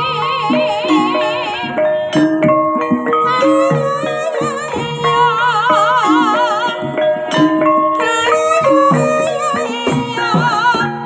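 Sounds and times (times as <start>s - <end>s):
woman singing: 0.0s - 2.2s, 3.2s - 11.0s
hand drum: 0.0s - 11.0s
high wavering melody: 0.0s - 11.0s
metallophones and gongs striking: 0.4s - 11.0s.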